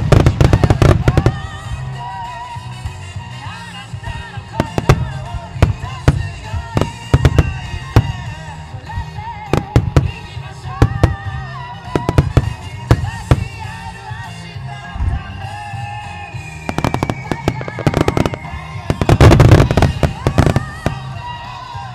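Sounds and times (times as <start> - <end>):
fireworks bursting: 0.0 - 2.1, 4.0 - 14.1, 16.1 - 21.7
melodic music: 0.0 - 21.9.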